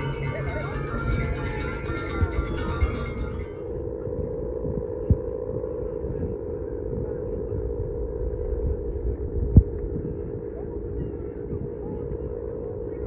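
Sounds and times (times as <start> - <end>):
kite hummer buzzing: 0.0 - 13.0
wind rumble on microphone: 0.0 - 13.0.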